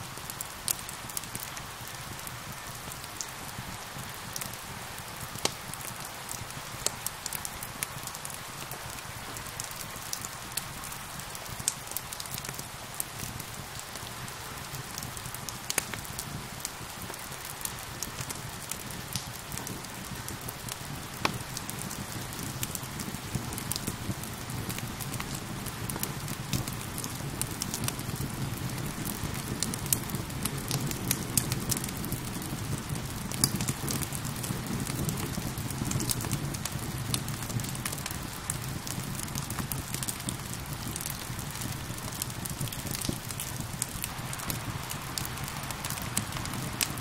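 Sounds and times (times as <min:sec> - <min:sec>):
rain falling: 0:00.0 - 0:47.0
wood fire crackling: 0:00.0 - 0:47.0.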